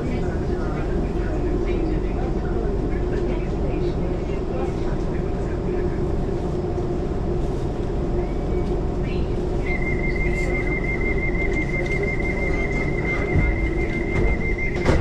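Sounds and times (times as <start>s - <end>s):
electric train rumble and motor hum: 0.0s - 15.0s.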